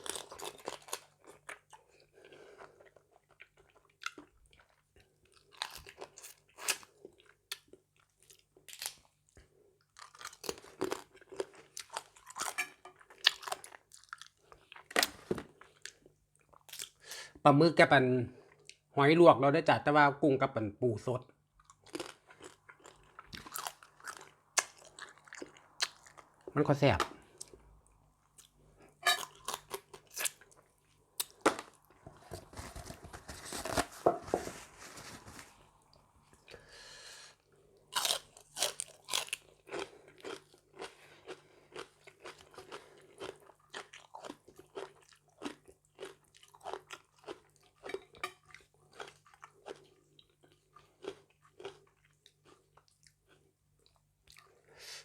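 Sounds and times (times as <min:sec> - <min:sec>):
chewing and crunching: 0:00.0 - 0:17.0, 0:21.6 - 0:36.6, 0:37.5 - 0:54.6.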